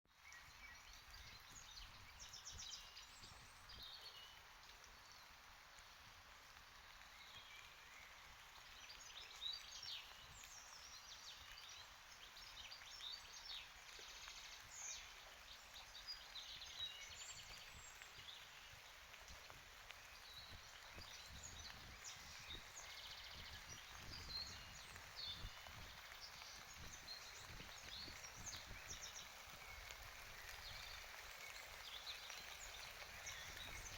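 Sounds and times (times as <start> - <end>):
rain hiss: 0.2 - 33.9.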